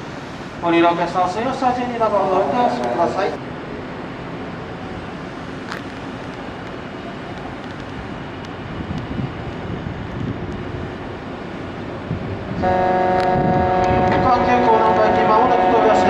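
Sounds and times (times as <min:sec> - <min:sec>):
electric train rumble and hiss: 0:00.0 - 0:16.0.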